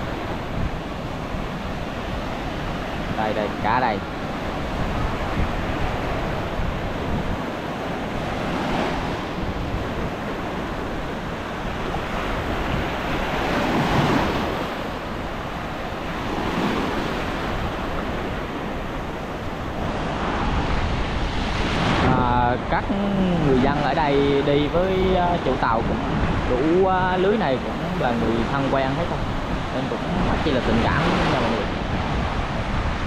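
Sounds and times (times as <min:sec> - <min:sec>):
sea surf washing onto beach: 0:00.0 - 0:33.0
wind on microphone: 0:00.0 - 0:33.0.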